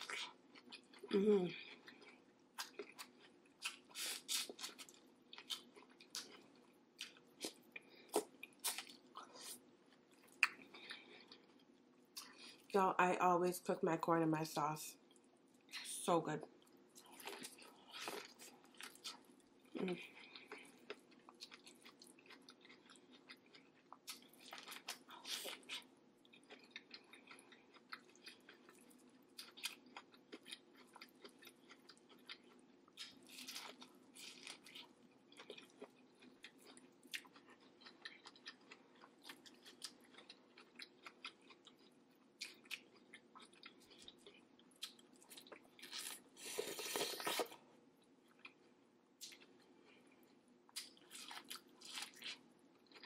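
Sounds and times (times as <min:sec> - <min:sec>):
person chewing wetly: 0:00.0 - 0:12.8, 0:15.1 - 0:47.6, 0:48.3 - 0:53.0.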